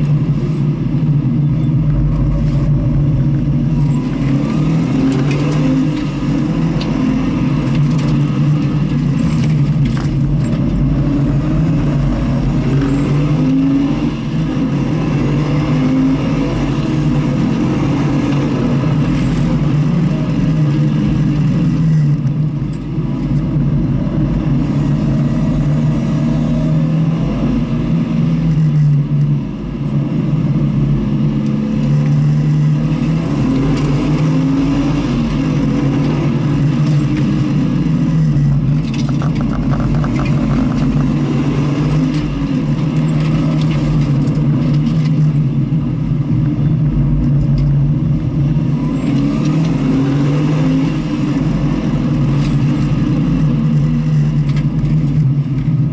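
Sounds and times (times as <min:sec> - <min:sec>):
race car engine revving: 0:00.0 - 0:55.8.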